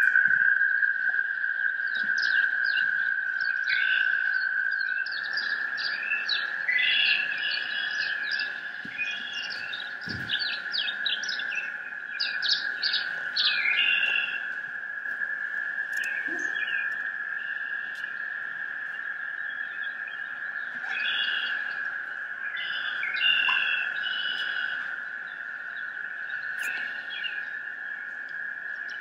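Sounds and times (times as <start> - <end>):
rapid bird-like chirps: 1.8 - 14.6, 15.8 - 29.0.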